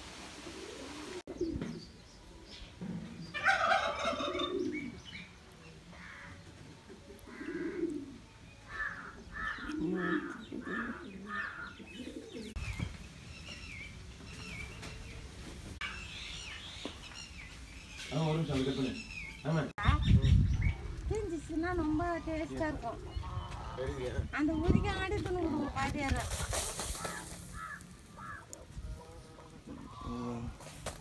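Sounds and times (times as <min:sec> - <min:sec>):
birds calling: 0:00.6 - 0:31.0.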